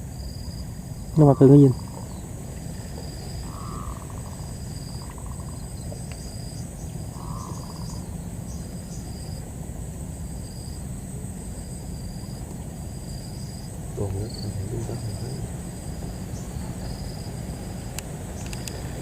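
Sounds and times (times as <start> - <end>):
insect chirps: 0.0 - 19.0
insects droning: 0.0 - 19.0
low steady rumble: 0.0 - 19.0.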